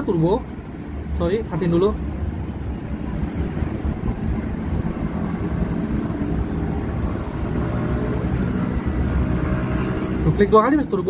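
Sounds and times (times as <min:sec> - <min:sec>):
low rumble: 0:00.5 - 0:10.4.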